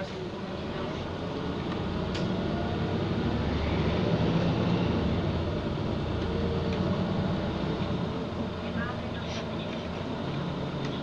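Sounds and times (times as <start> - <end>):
bus engine running: 0.0 - 11.0
road and body rumble: 0.0 - 11.0.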